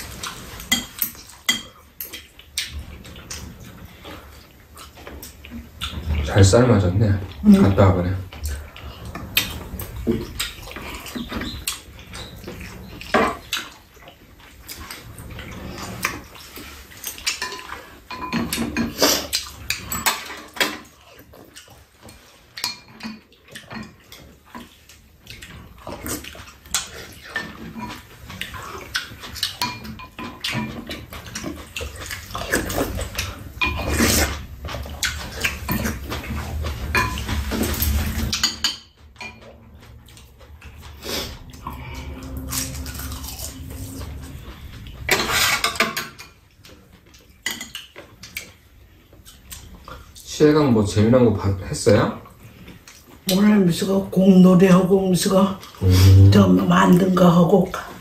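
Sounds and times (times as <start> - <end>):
chewing: 0.0 - 6.3, 7.2 - 38.4, 39.0 - 45.6, 46.6 - 50.3.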